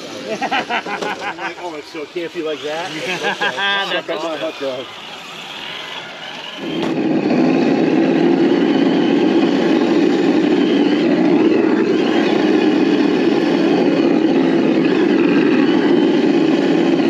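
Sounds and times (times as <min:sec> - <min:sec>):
simulated engine sound: 0:00.0 - 0:17.0.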